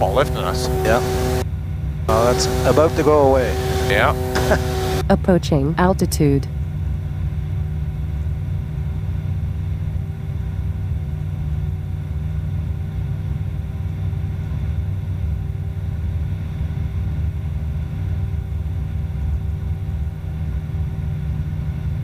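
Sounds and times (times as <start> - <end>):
light aircraft cabin drone: 0.0 - 22.0.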